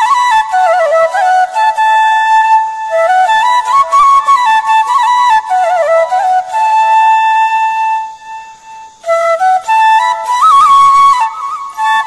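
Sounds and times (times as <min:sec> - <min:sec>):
slow solo flute melody: 0:00.0 - 0:12.0.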